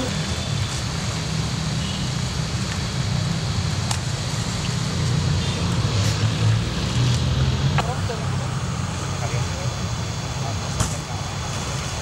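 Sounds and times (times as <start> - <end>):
outdoor hiss: 0.0 - 12.0.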